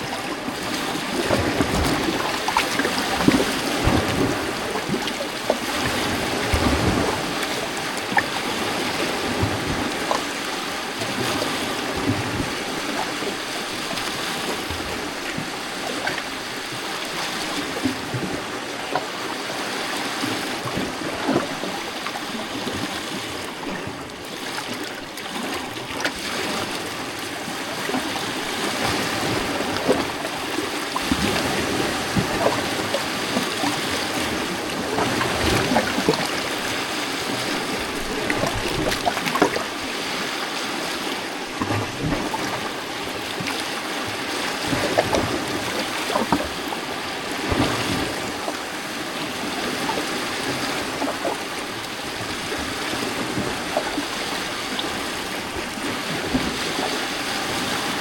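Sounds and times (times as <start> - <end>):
waves lapping against rocks: 0.0 - 58.0.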